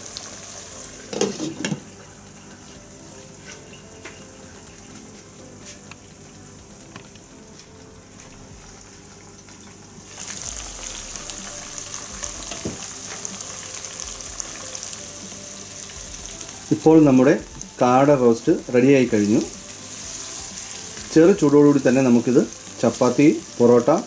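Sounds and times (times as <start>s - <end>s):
food sizzling and crackling in pot: 0.0s - 24.0s.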